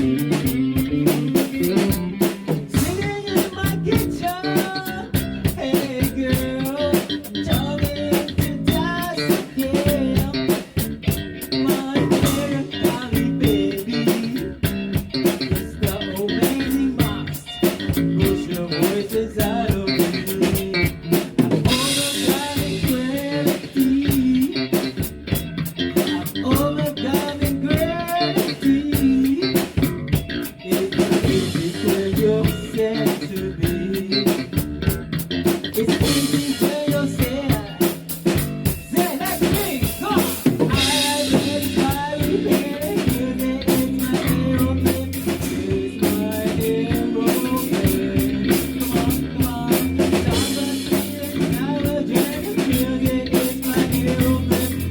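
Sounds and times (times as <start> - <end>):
rock band playing: 0.0 - 54.9.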